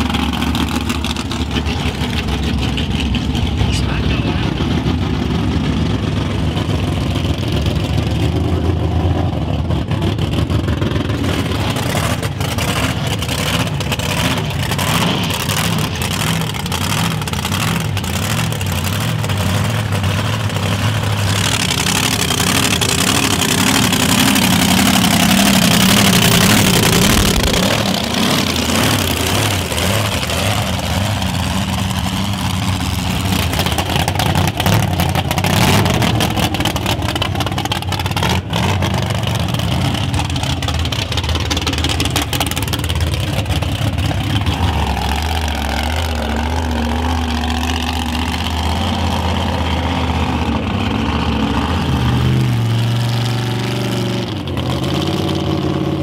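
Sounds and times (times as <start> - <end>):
truck engine running hard: 0.0 - 56.0.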